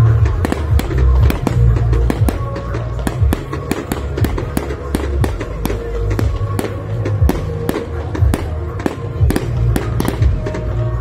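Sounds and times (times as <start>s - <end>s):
fireworks bangs and crackles: 0.0s - 11.0s
music with heavy bass: 0.0s - 11.0s.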